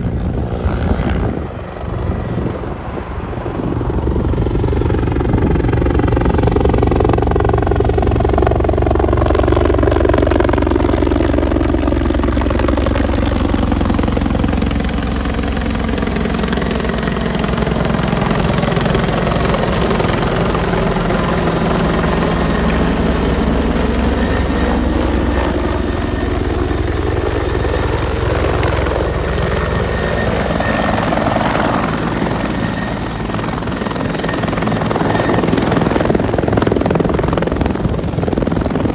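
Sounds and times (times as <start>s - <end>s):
helicopter rotor and engines: 0.0s - 38.9s.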